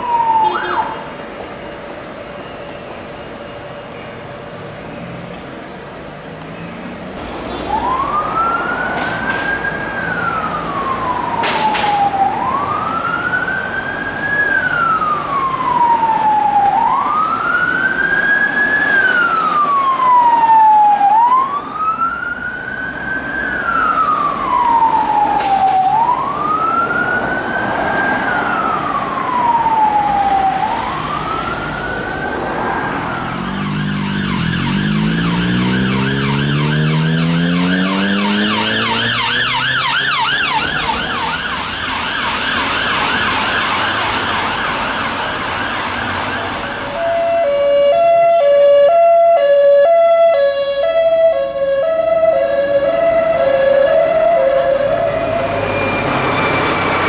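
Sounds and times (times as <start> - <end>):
police siren wailing: 0.0 - 1.2, 7.6 - 57.0
traffic noise: 0.0 - 57.0.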